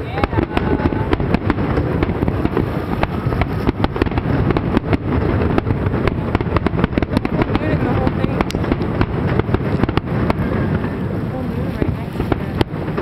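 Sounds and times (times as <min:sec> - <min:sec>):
fireworks bangs: 0:00.0 - 0:13.0
low rumble: 0:00.0 - 0:13.0.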